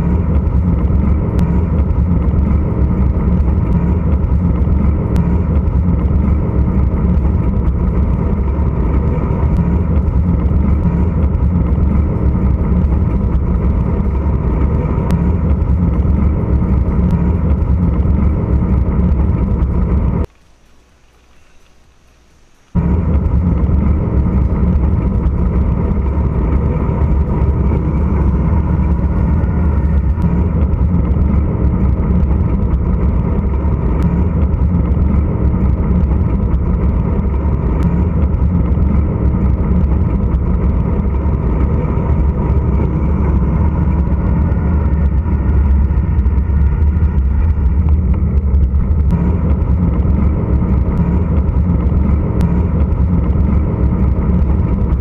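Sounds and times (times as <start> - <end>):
wind buffeting microphone: 0.0 - 20.3, 22.7 - 55.0
bicycle tyres rumbling on asphalt: 0.0 - 55.0.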